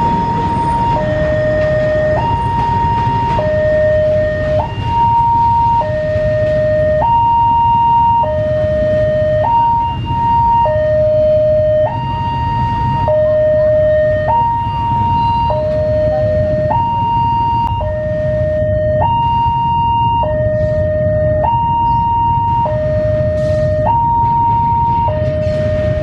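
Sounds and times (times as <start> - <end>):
level crossing two-tone alarm: 0.0 - 26.0
low traffic rumble: 0.0 - 26.0.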